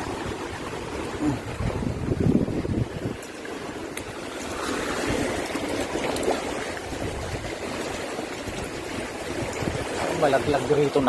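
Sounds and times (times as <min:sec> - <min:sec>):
seawater washing over rocks: 0:00.0 - 0:11.0.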